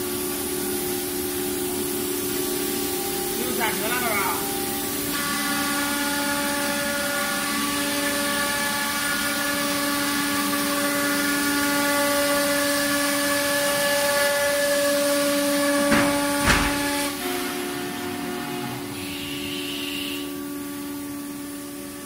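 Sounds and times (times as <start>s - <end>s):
wood router whine: 0.0s - 22.0s.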